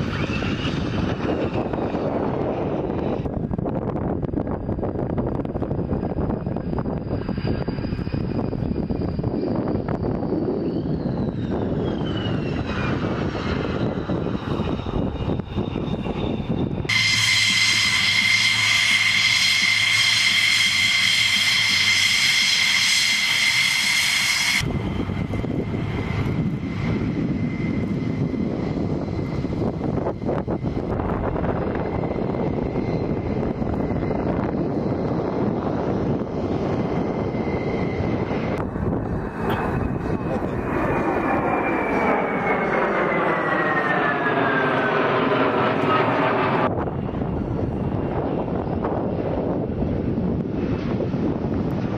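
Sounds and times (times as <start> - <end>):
jet engine high-pitched whine: 0.0 - 51.9
jet rumbling along runway: 0.0 - 51.9.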